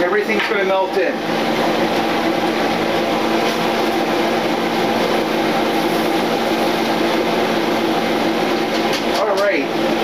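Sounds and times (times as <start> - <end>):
range hood fan whirring: 0.0 - 10.0.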